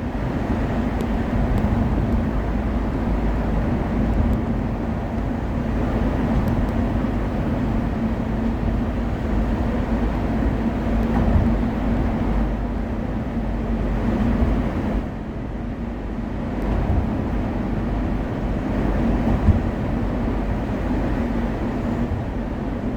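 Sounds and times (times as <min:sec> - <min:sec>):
car tyre and engine rumble: 0:00.0 - 0:22.9
constant low hum: 0:00.0 - 0:22.9.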